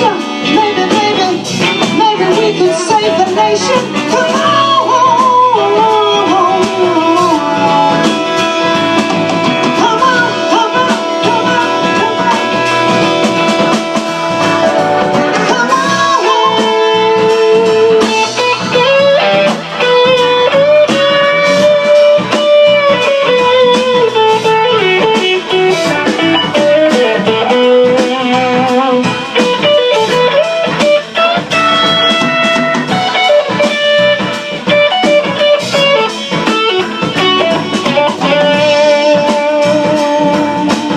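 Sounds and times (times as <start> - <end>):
electric guitar lead melody: 0.0 - 40.9
live band playing blues: 0.0 - 40.9.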